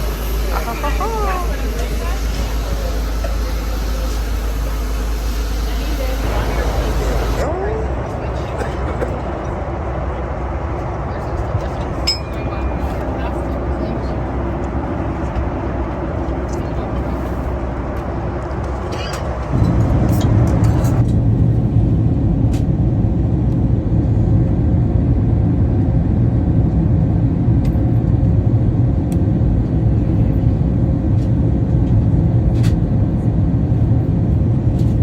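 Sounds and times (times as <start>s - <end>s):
airliner engine rumble: 0.0s - 35.0s.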